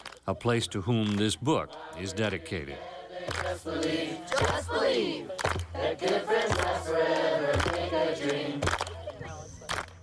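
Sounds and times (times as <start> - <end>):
crowd chanting and shouting: 0.0 - 10.0.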